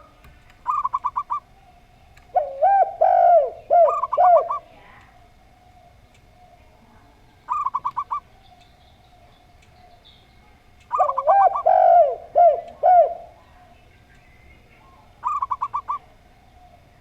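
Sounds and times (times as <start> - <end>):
dove cooing: 0.0 - 13.8, 14.4 - 17.0
faint steady tone: 0.0 - 17.0.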